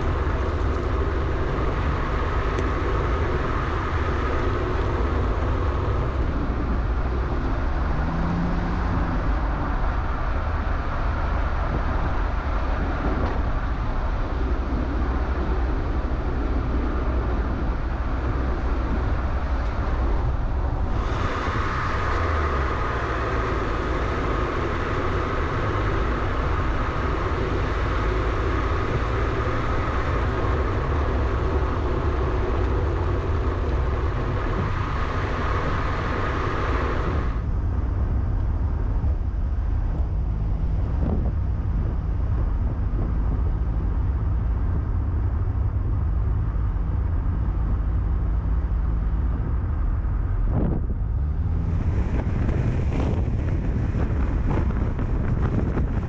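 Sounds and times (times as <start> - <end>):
tyres rumbling on road: 0.0 - 56.0
wind on microphone: 0.0 - 56.0.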